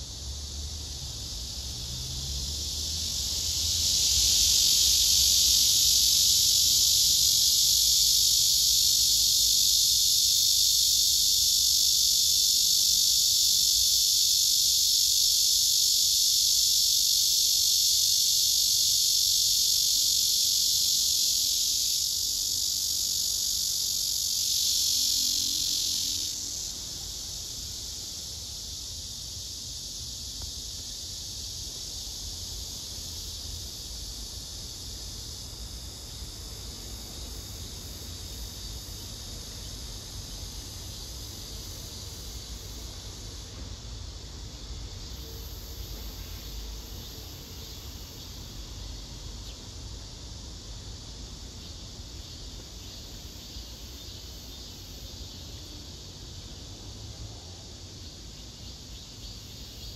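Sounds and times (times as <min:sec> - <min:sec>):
cicada buzzing: 0:00.0 - 0:59.9.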